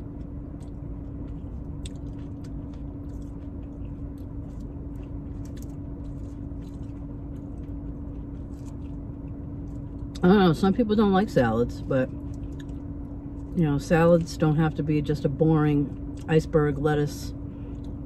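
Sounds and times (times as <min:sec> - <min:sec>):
chewing and crunching salad: 0:00.0 - 0:18.0
steady low hum: 0:00.0 - 0:18.0.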